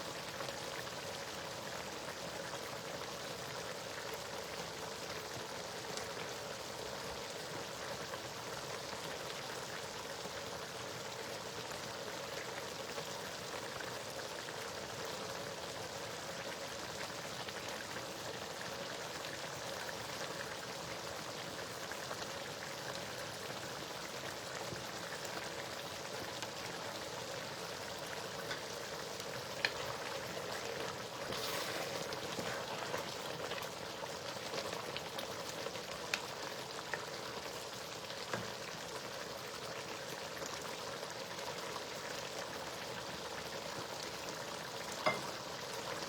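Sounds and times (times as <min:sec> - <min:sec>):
stew sizzling and bubbling: 0:00.0 - 0:46.0.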